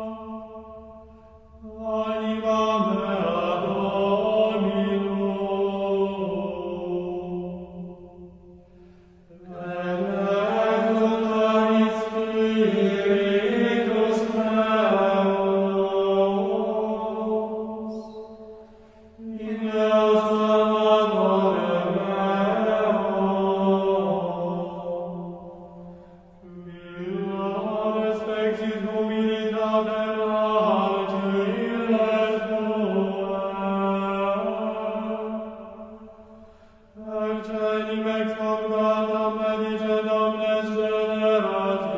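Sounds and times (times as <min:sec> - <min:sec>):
slow music with long held notes: 0:00.0 - 0:41.9.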